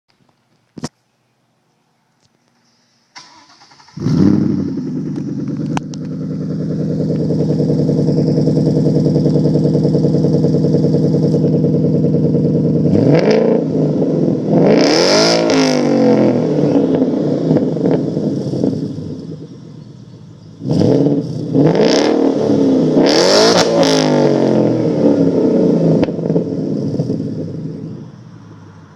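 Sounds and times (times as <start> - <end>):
car exhaust idling and revving: 3.8 - 28.9.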